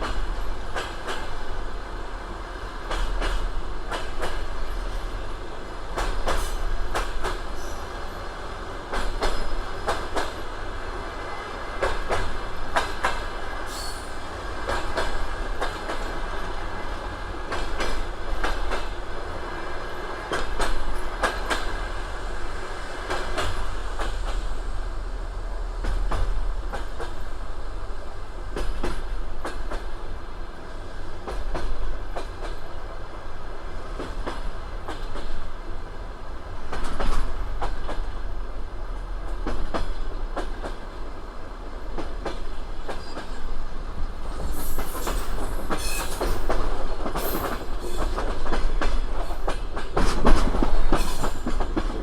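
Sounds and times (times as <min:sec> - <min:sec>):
train wheels clicking over rail joints: 0:00.0 - 0:01.6, 0:02.5 - 0:52.0
train rolling rumble: 0:00.0 - 0:52.0.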